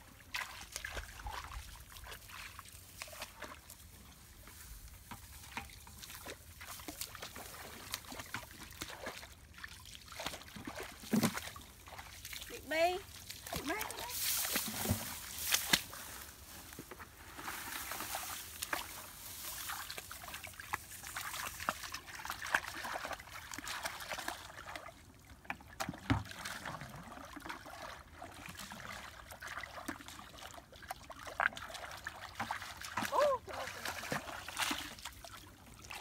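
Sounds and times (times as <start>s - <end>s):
muddy water sloshing and trickling: 0.0s - 36.0s
splashes of people wading: 0.2s - 4.3s, 5.0s - 36.0s.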